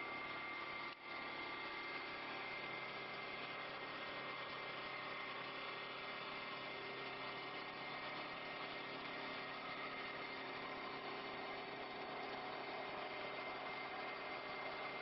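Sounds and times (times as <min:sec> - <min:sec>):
wood lathe running: 0:00.0 - 0:15.0.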